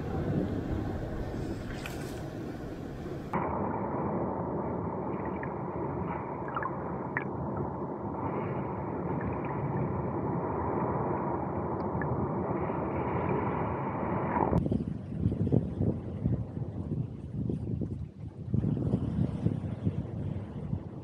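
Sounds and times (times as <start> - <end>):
muffled underwater water wash: 0.0 - 21.0
wind noise: 0.0 - 21.0.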